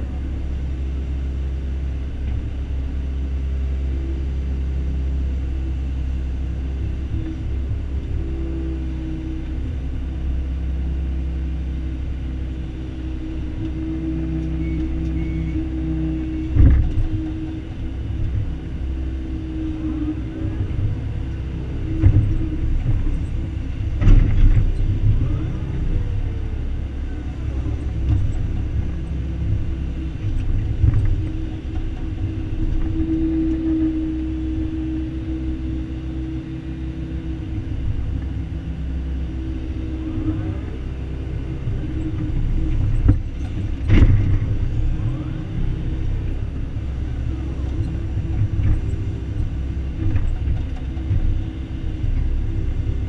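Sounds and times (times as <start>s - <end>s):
excavator diesel engine: 0.0s - 53.0s.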